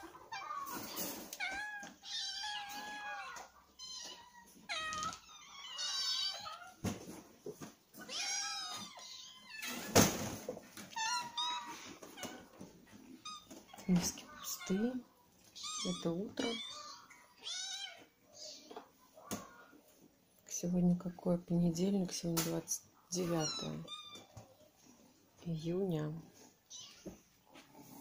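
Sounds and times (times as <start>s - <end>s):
cats meowing: 0.0s - 20.0s, 23.1s - 24.7s, 26.4s - 27.6s.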